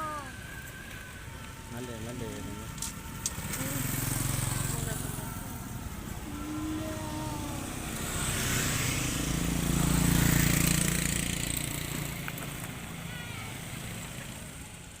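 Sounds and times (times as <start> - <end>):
motor vehicle passing by: 0.0 - 15.0.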